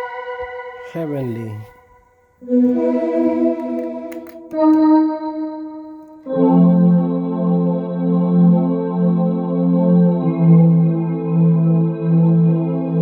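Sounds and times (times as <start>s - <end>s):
synthesizer playing held chords: 0.0s - 13.0s.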